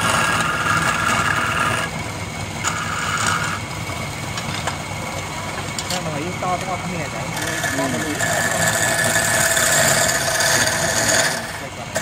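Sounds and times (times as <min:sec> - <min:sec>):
chisel scraping spinning wood: 0:00.0 - 0:12.0
lathe motor hum: 0:00.0 - 0:12.0.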